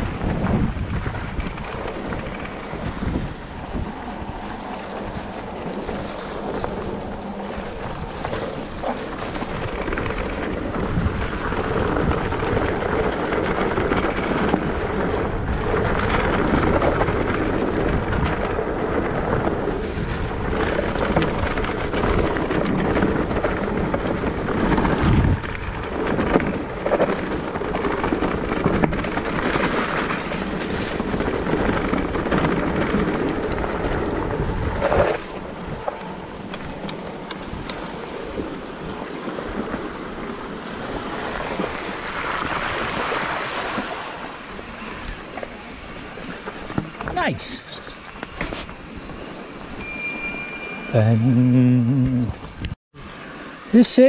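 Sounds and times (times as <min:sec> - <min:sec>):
bike tyres rolling over leaves: 0:00.0 - 0:49.8
bike rattling: 0:00.0 - 0:52.7
wind rumbling on microphone: 0:00.0 - 0:53.8.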